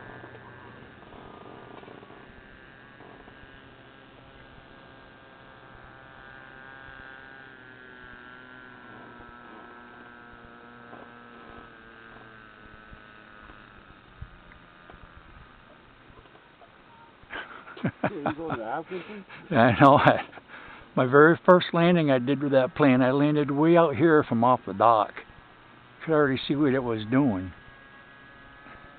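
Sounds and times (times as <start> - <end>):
model boat motor whining: 0.0 - 28.9.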